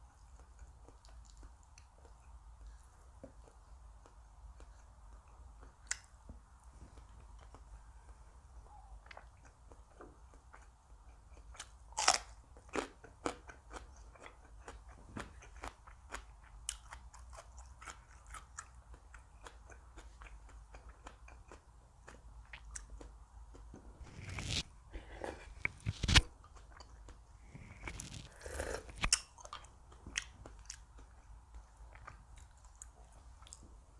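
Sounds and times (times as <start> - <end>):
chewing crisp food: 0.0 - 6.2, 7.0 - 24.6, 25.3 - 33.7.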